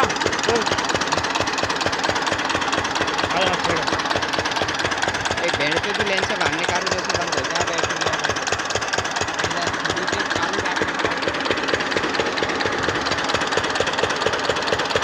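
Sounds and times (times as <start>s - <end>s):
engine knocking steadily: 0.0s - 15.0s.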